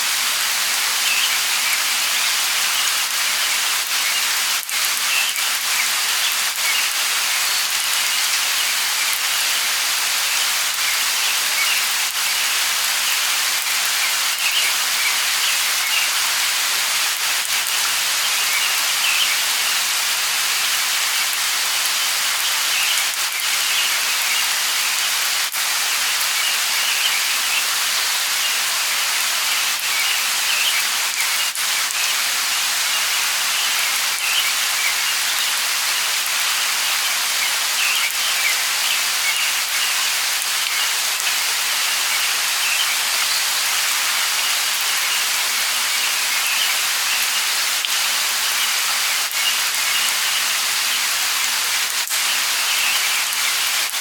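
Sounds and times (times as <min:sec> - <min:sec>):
light rain hissing: 0:00.0 - 0:54.0
raindrops ticking: 0:00.4 - 0:27.5, 0:33.6 - 0:54.0.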